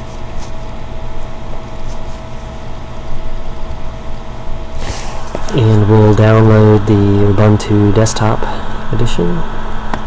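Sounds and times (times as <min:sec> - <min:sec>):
background hum and hiss: 0:00.0 - 0:10.0
faint constant whine: 0:00.0 - 0:10.0.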